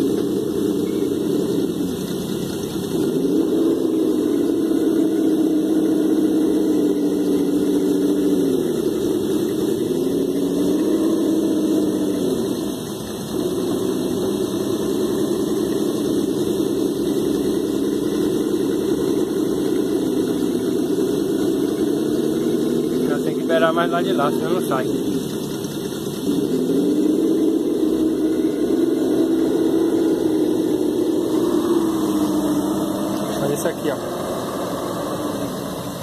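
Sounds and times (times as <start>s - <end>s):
electric motor and gearbox whining: 0.0s - 36.0s.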